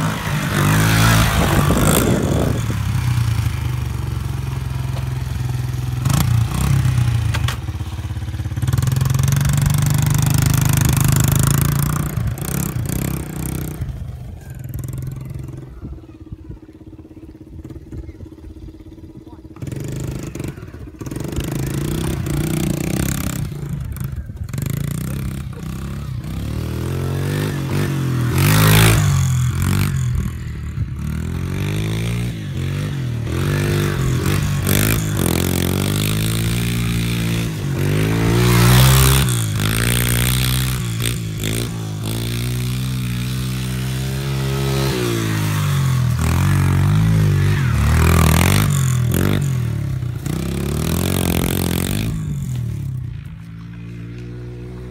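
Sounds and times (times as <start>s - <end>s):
pit bike engine revving: 0.0s - 15.9s, 17.6s - 54.9s.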